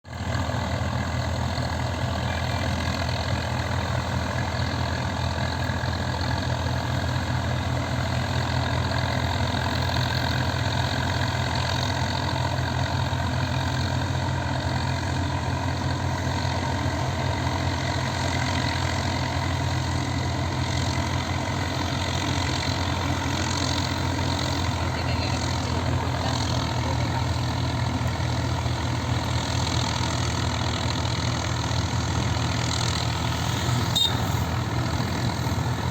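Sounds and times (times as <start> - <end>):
diesel tractor engine running: 0.0 - 35.9.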